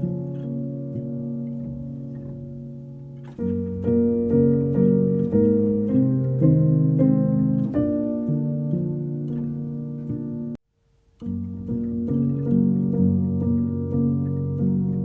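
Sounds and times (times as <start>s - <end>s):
plucked-string instrumental music: 0.0s - 10.6s, 11.2s - 15.0s.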